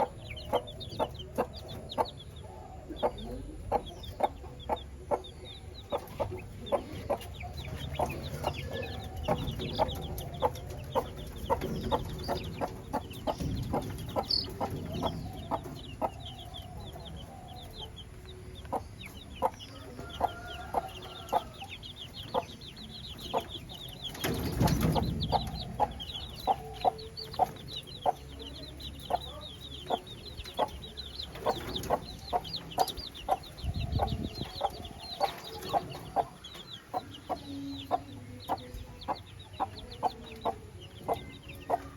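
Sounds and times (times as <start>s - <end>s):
chickens clucking: 0.0s - 41.9s
high chick peeping: 0.0s - 41.9s.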